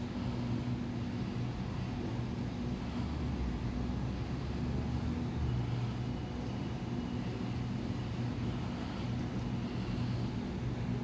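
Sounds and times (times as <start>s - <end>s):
train equipment low hum: 0.0s - 11.0s.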